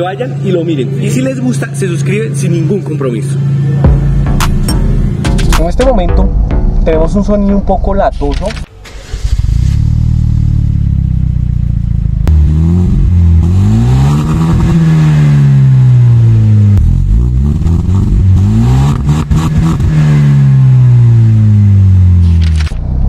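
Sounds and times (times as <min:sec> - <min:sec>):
car engine idling and revving: 0:01.1 - 0:23.0.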